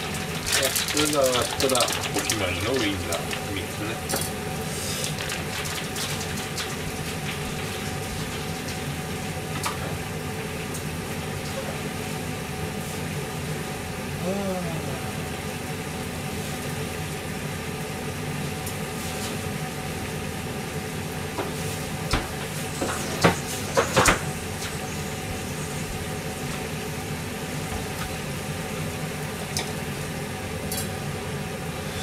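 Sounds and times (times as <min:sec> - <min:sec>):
gas burner hum and hiss: 0:00.0 - 0:32.0.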